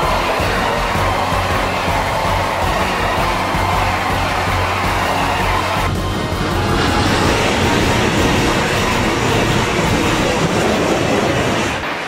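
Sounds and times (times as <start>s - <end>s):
background music: 0.0s - 10.5s.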